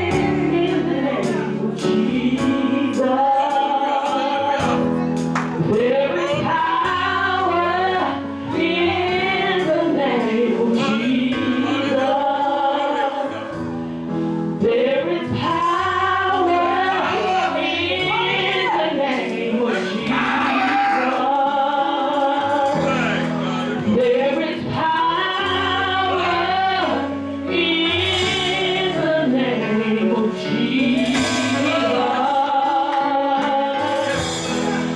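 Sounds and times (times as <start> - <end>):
women singing gospel together: 0.0 - 13.8, 14.4 - 34.9
keyboard and bass accompaniment: 0.0 - 34.9.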